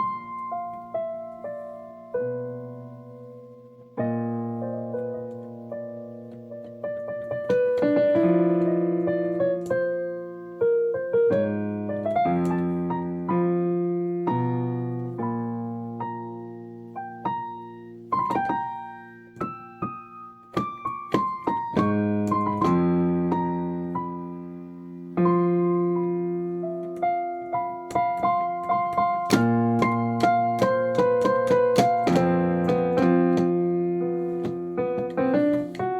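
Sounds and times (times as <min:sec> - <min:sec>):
solo piano music: 0:00.0 - 0:35.9.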